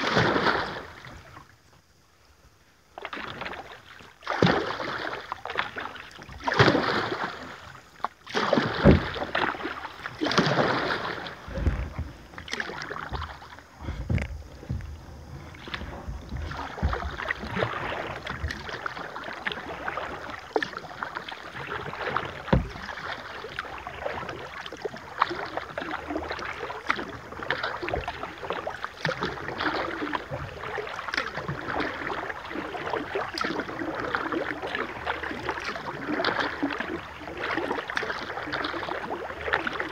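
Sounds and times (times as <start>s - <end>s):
water dripping and lapping: 0.0s - 1.5s, 2.9s - 39.9s
paddle splashing in river: 0.0s - 39.9s.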